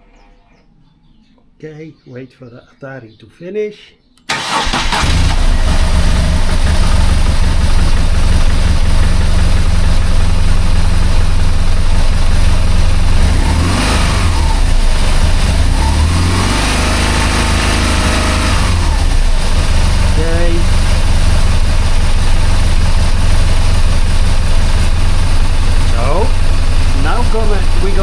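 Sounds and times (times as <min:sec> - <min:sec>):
motorcycle engine idling: 0:04.4 - 0:28.0.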